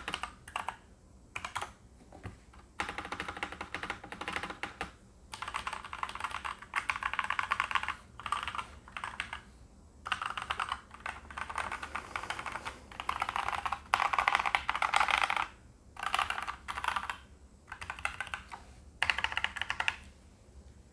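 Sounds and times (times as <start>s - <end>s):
mechanical keyboard typing: 0.0s - 1.8s, 2.8s - 20.0s.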